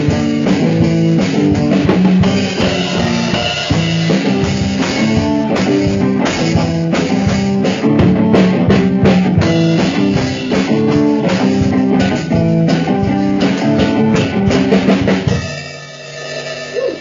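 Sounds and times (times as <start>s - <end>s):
electric guitar chords: 0.0s - 17.0s
rock drums: 0.0s - 17.0s.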